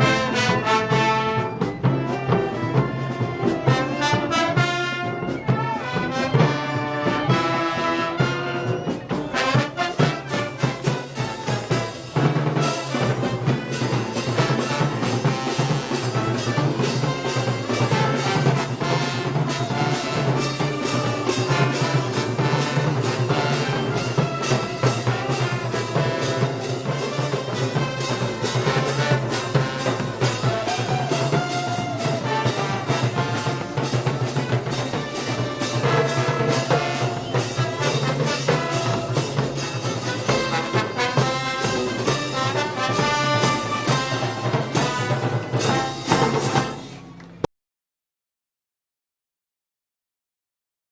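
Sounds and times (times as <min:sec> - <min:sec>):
steady drum beat: 0:00.0 - 0:47.0
brass band march: 0:00.0 - 0:47.5.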